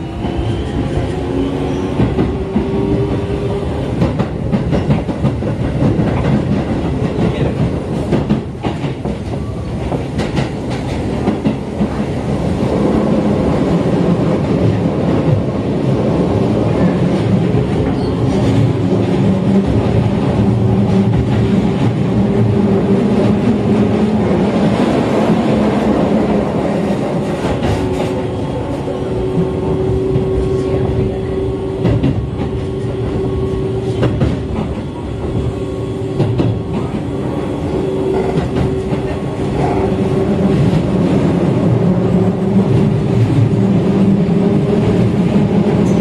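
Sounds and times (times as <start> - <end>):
train motors and wheels humming: 0.0 - 46.0.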